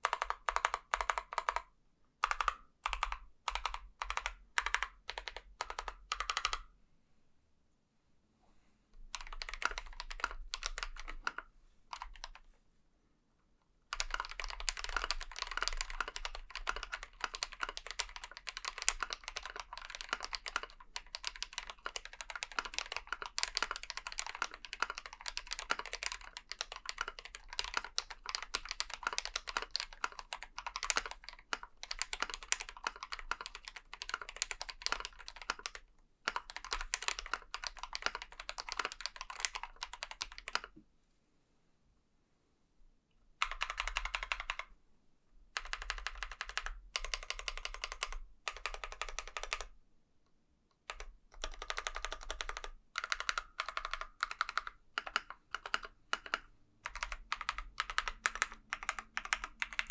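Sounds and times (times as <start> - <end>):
mechanical keyboard typing: 0.0 - 6.7, 9.1 - 12.4, 13.9 - 40.7, 43.4 - 44.7, 45.6 - 49.7, 50.8 - 59.9.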